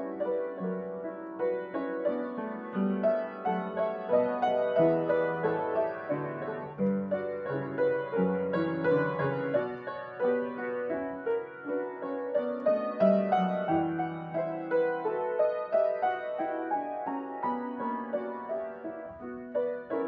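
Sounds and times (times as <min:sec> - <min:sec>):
upright piano playing: 0:00.0 - 0:20.0.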